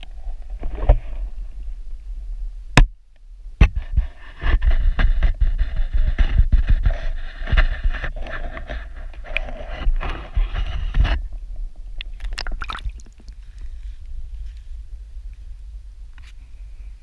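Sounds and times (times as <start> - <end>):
quiet low rumble: 0.0 - 17.0.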